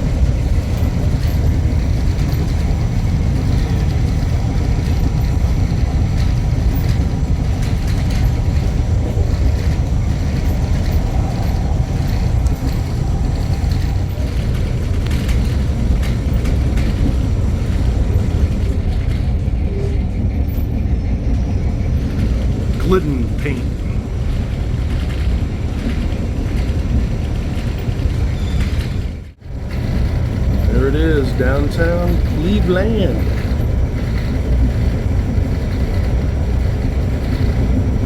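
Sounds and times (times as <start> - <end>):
light rail train rumble: 0.0 - 38.0
faint clicks and rattles: 0.1 - 20.8, 23.8 - 38.0.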